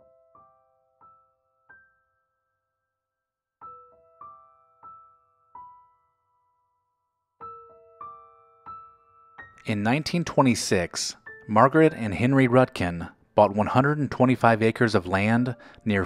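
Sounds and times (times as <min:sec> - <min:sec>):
slow piano notes: 0:00.0 - 0:02.8, 0:03.6 - 0:13.4, 0:15.5 - 0:16.0.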